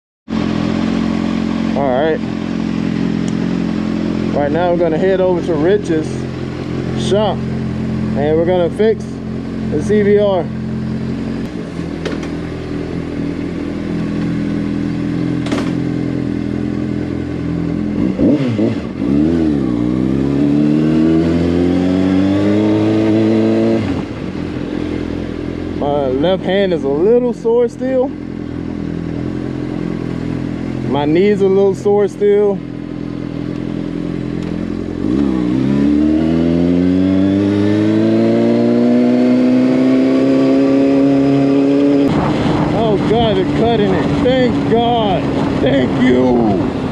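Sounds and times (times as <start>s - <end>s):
motorcycle engine accelerating: 0.3s - 46.9s.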